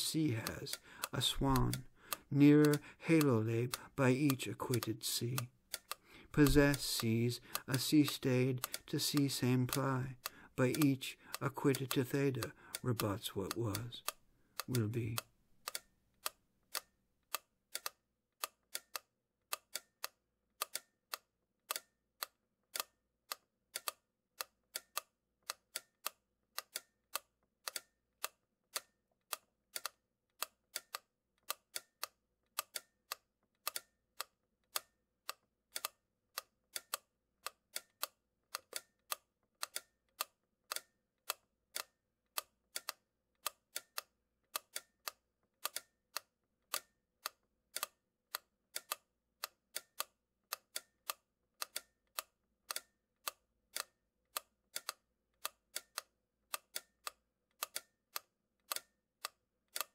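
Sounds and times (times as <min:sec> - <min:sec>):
sharp dry clicks: 0:00.0 - 0:59.9.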